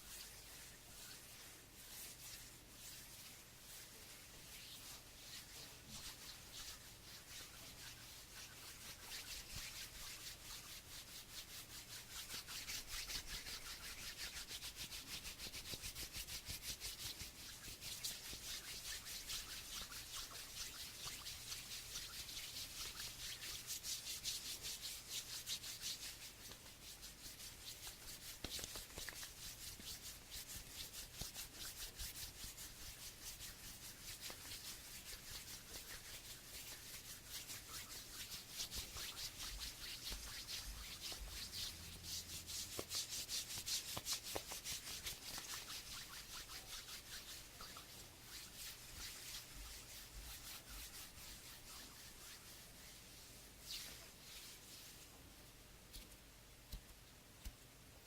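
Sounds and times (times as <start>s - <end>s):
hands rubbing: 0.0s - 55.1s.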